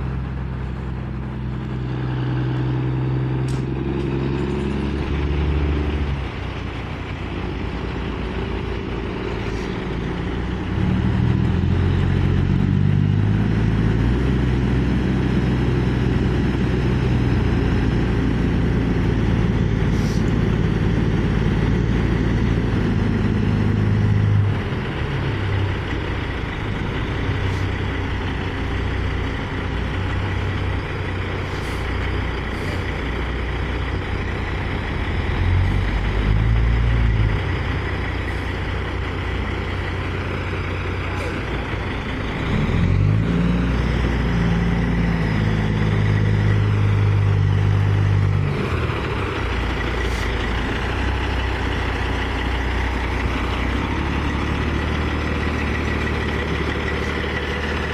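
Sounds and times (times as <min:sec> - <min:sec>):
diesel truck engine running: 0:00.0 - 0:57.9
truck on gravel road: 0:00.0 - 0:57.9.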